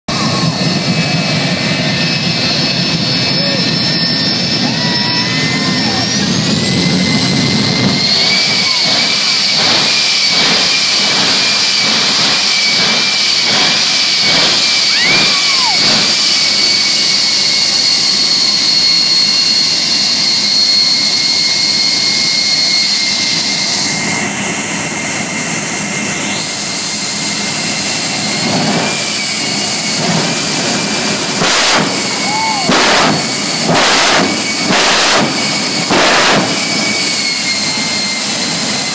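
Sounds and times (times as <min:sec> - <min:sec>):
turbine engine high whine: 0:00.0 - 0:38.9.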